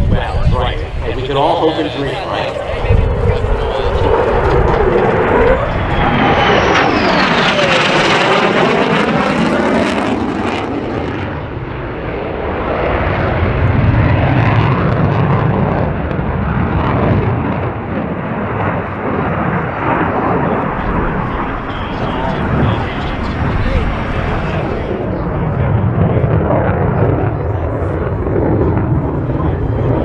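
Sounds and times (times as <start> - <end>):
jet engine roaring: 0.0 - 30.0.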